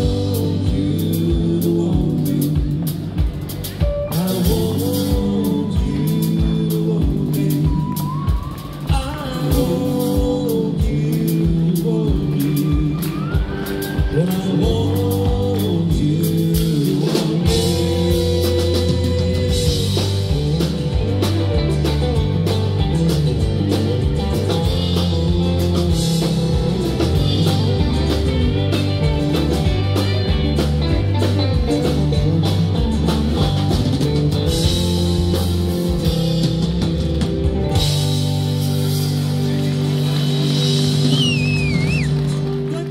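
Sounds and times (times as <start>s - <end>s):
rock band playing: 0.0s - 42.9s.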